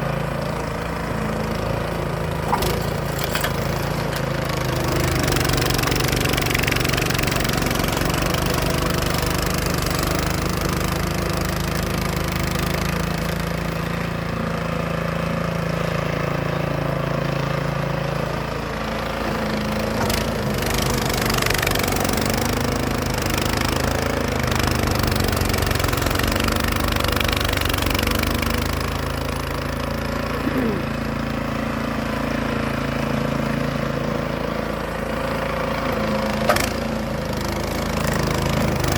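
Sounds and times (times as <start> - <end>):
snow blower engine running: 0.0 - 38.9.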